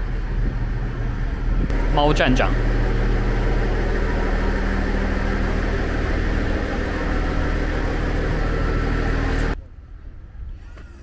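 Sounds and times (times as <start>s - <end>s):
diesel railcar idling: 0.0s - 9.6s.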